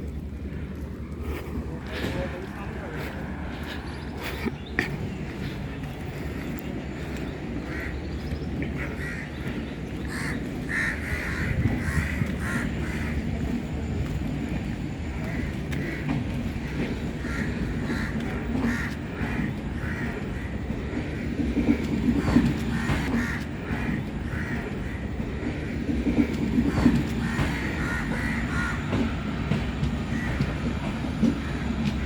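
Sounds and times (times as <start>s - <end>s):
passing train rumbling: 0.0s - 32.0s.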